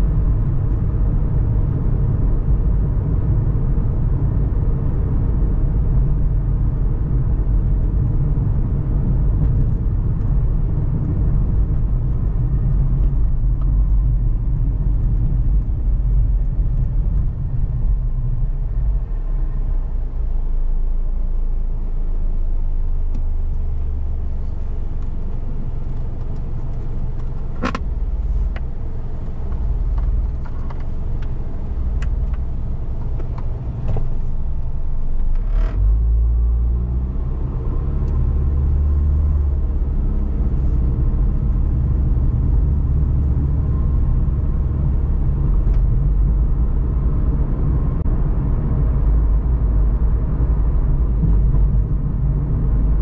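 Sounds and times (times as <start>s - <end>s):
car rumbling on road: 0.0s - 53.0s.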